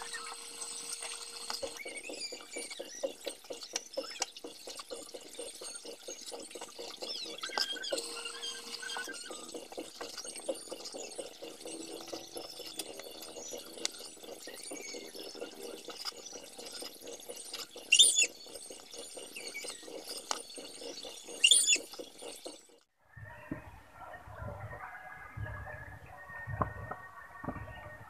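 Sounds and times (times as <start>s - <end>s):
high-pitched squeaks: 0.0s - 22.6s.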